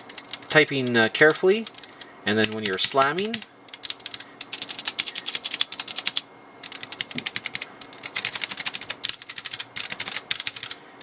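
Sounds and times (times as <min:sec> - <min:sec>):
mechanical keyboard typing: 0:00.0 - 0:10.8.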